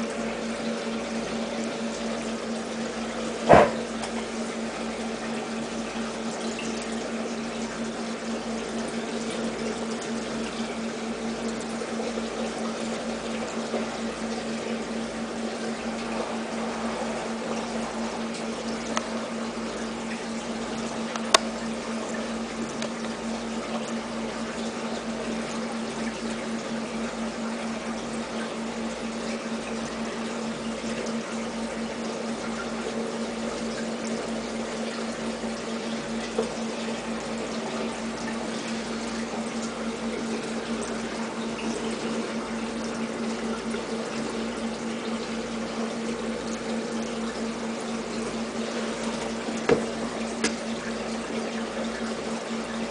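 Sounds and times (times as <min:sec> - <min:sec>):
water pump humming: 0:00.0 - 0:52.9
water trickling: 0:00.0 - 0:52.9.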